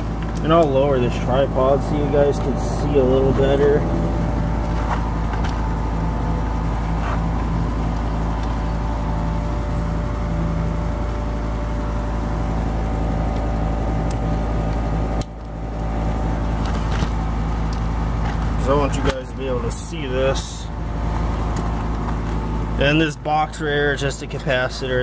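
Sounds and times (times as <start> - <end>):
steady mechanical hum with tones: 0.0 - 25.0.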